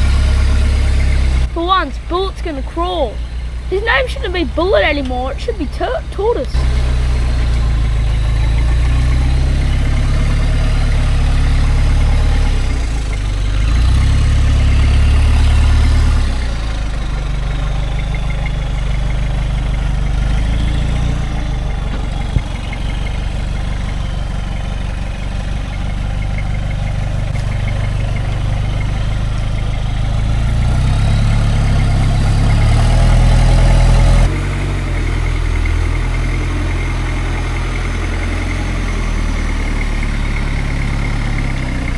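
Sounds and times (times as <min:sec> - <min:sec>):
diesel truck engine at low revs: 0:00.0 - 0:41.9.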